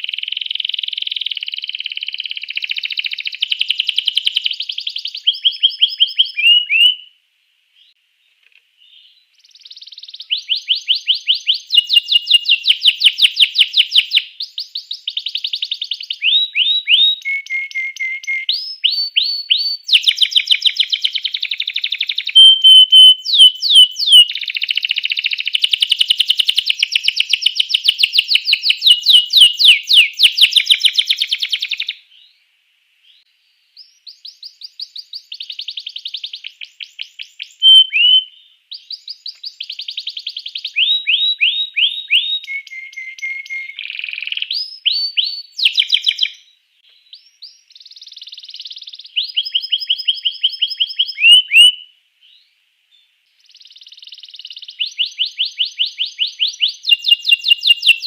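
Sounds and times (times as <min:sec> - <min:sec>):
canary singing trills: 0:00.0 - 0:07.2, 0:08.8 - 0:32.4, 0:33.1 - 0:52.5, 0:53.3 - 0:58.0.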